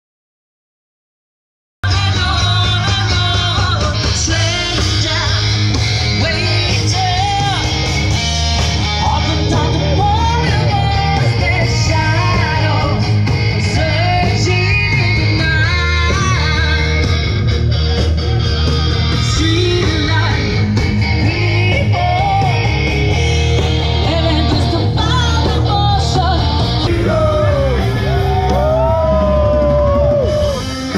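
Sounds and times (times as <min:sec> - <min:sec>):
person singing: 0:01.8 - 0:07.9, 0:08.8 - 0:17.3, 0:19.1 - 0:23.2, 0:23.8 - 0:30.9
drums: 0:01.8 - 0:30.9
electric guitar: 0:01.8 - 0:30.9
heavy bass: 0:01.8 - 0:30.9.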